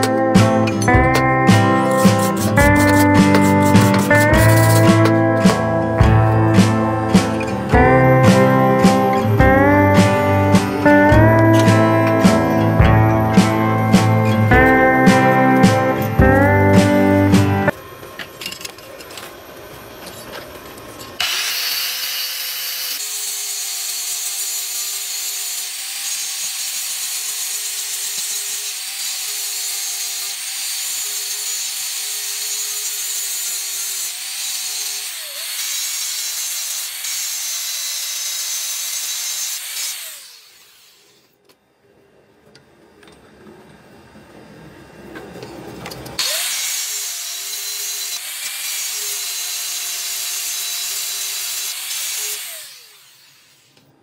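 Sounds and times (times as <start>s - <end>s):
angle grinder cutting metal: 0.0s - 17.8s, 21.1s - 41.4s, 46.2s - 54.0s.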